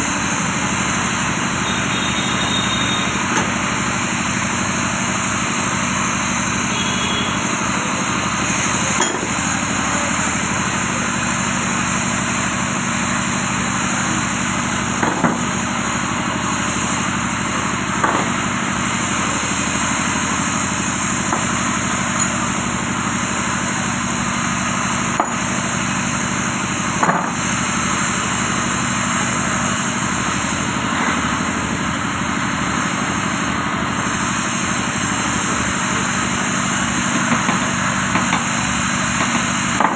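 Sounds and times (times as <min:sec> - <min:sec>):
machine running with low hum: 0:00.0 - 0:39.9.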